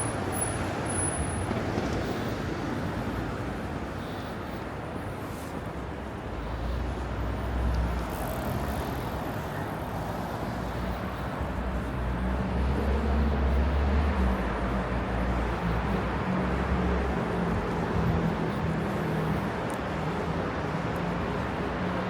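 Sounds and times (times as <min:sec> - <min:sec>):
road noise: 0:00.0 - 0:22.0.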